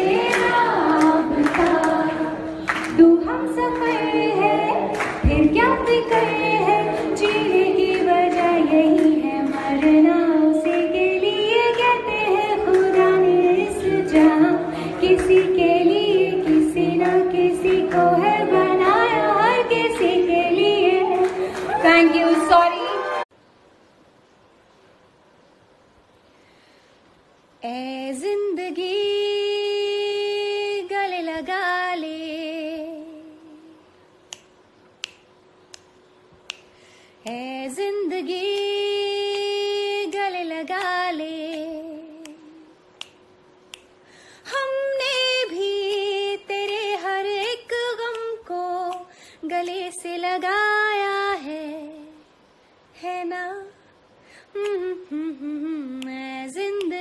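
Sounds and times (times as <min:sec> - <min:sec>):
woman singing unaccompanied: 0:00.0 - 0:23.0, 0:27.6 - 0:33.9, 0:37.2 - 0:43.0, 0:44.5 - 0:52.3, 0:52.9 - 0:53.8, 0:54.5 - 0:57.0.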